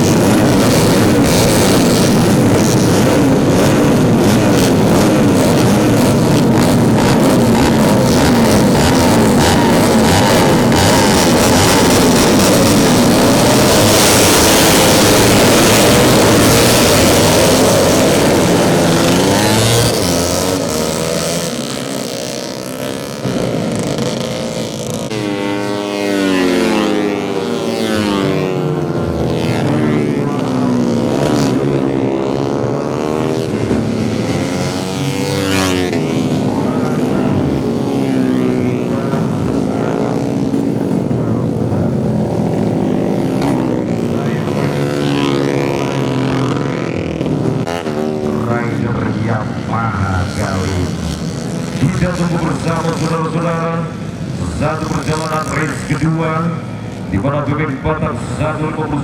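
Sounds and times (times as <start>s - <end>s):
motorcycles revving: 0.0s - 59.0s.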